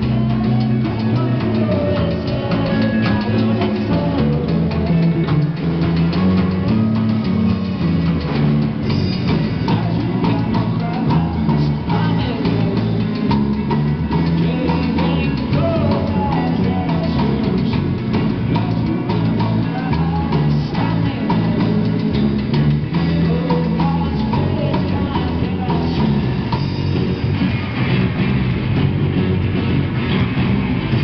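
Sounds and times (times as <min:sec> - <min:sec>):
bass line: 0:00.0 - 0:31.0
drum kit: 0:00.0 - 0:31.0
electric guitars: 0:00.0 - 0:31.0.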